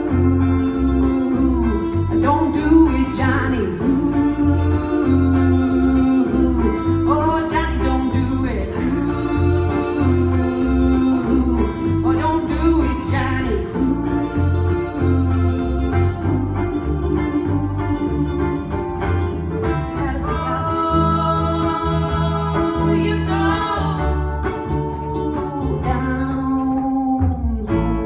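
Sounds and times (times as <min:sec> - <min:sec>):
ukulele melody: 0:00.0 - 0:28.0.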